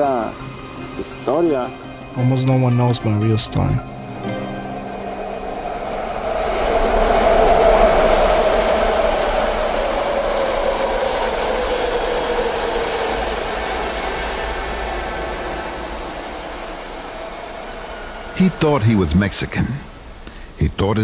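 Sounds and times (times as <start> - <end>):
subway train rumbling: 0.0 - 21.0
train whine: 0.0 - 21.0.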